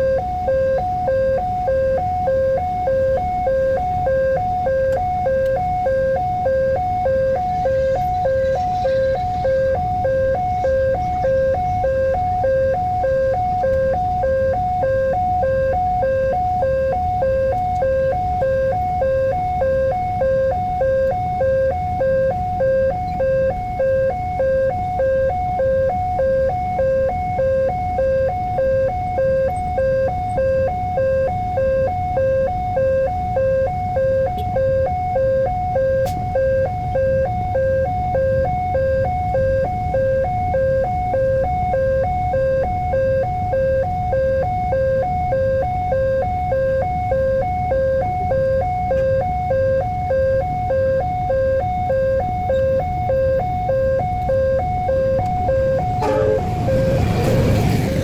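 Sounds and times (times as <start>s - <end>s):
level crossing two-tone alarm: 0.0s - 58.0s.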